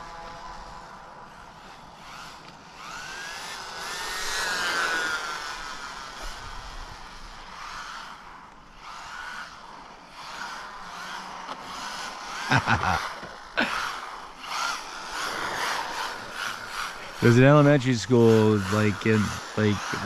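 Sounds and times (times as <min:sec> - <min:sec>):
toy car electric motor whining: 0:00.0 - 0:20.0.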